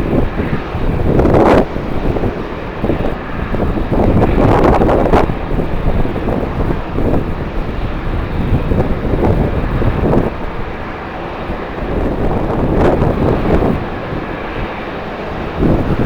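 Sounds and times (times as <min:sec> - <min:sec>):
jet engines running: 0:00.0 - 0:16.0
wind buffeting microphone: 0:00.0 - 0:16.0.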